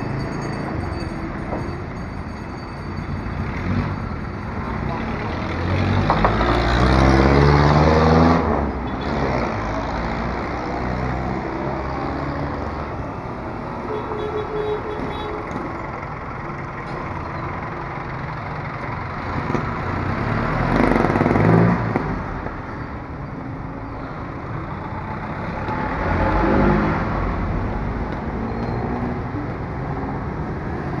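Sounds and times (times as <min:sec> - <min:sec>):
passing motor vehicles: 0:00.0 - 0:31.0.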